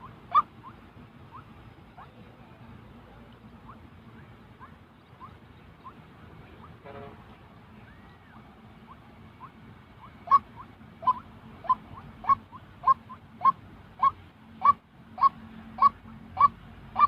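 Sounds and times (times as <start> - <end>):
waterhen calling: 0.0 - 2.5, 3.2 - 17.0.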